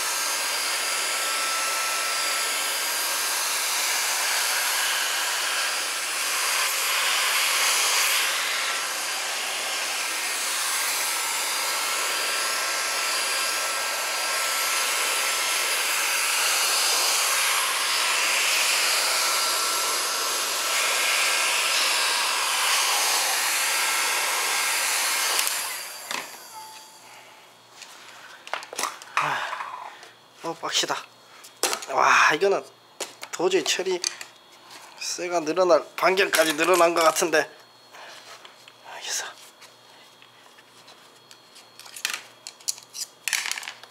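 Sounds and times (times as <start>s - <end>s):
electric air blower running: 0.0s - 32.0s, 34.8s - 40.4s.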